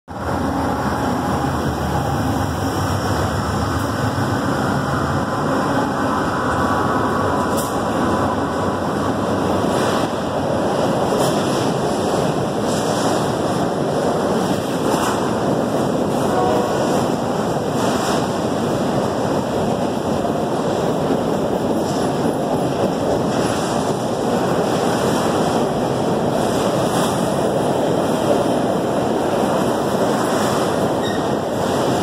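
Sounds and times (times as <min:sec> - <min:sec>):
diesel locomotive engine rumble: 0:00.1 - 0:32.0
freight wagons wheel-on-rail noise: 0:00.1 - 0:32.0.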